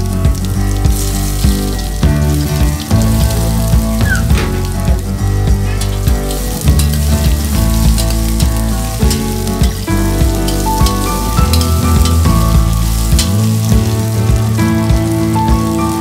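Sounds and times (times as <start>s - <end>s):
background music with melody: 0.0s - 16.0s
food sizzling in oil: 0.0s - 16.0s.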